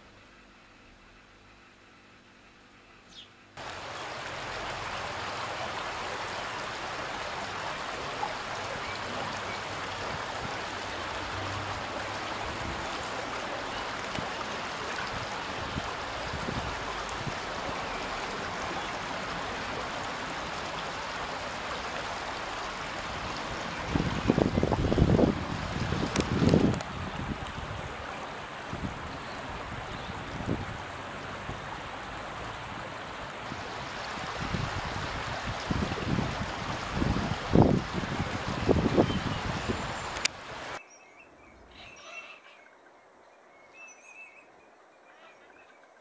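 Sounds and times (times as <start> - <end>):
river water rushing: 3.6 - 40.8.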